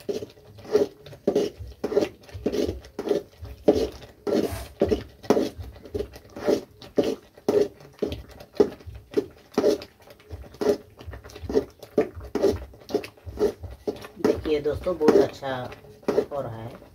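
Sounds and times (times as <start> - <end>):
metal spatula scraping thick food: 0.0 - 16.9.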